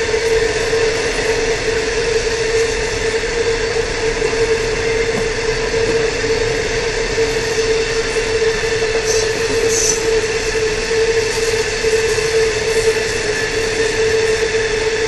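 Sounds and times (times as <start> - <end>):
train wheels rushing on rail: 0.0 - 15.0.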